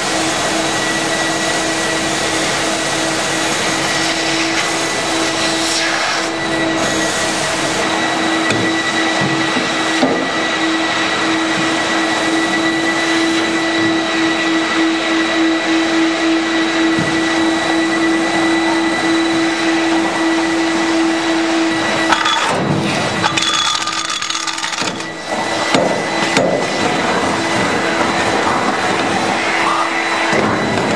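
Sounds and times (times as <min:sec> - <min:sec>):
industrial vacuum cleaner running: 0:00.0 - 0:30.9.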